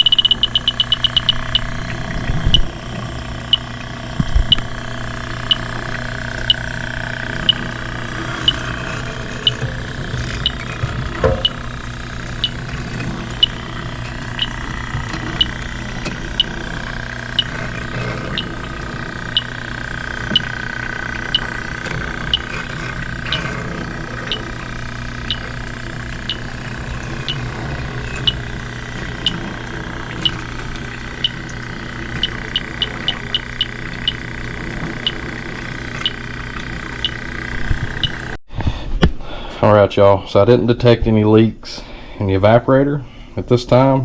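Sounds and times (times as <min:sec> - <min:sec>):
leak detector ticking: 0:00.0 - 0:38.4
hum with high whine: 0:00.0 - 0:44.0.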